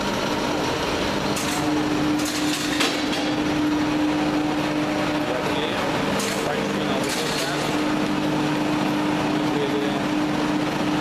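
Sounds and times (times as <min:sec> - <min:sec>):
machine droning hum: 0:00.0 - 0:11.0.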